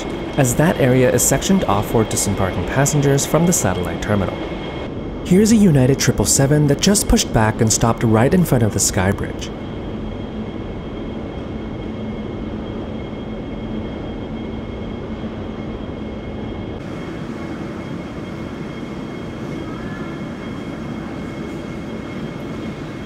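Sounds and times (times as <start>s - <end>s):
jet engines idling: 0.0s - 23.0s.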